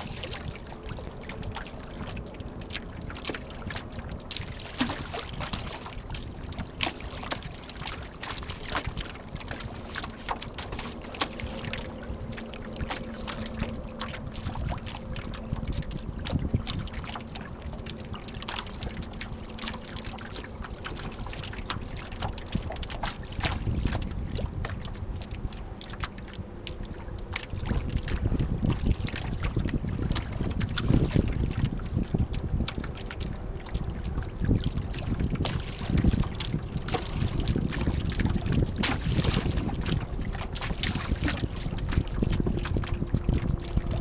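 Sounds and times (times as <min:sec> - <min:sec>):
water slapping against a hull: 0:00.0 - 0:44.0
wind buffeting microphone: 0:00.0 - 0:44.0.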